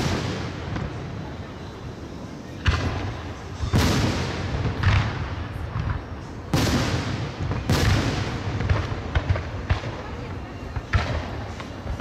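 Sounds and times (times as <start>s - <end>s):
fireworks booming with echo: 0.0s - 12.0s
small fireworks cracks: 0.0s - 12.0s.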